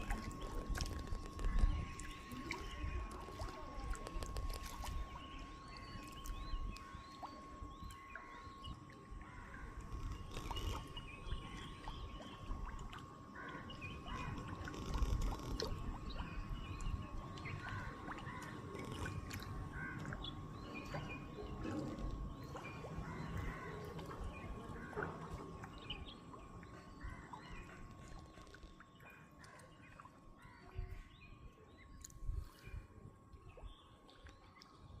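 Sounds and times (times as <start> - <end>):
low uneven rumble: 0.0 - 35.0.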